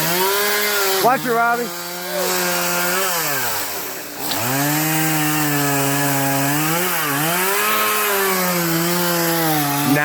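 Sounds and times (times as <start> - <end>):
chainsaw revving: 0.0 - 10.0.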